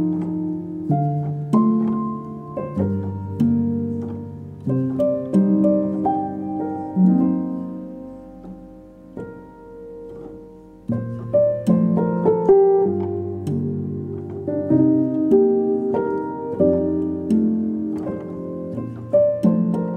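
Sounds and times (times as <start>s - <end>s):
gentle instrumental melody: 0.0s - 19.9s.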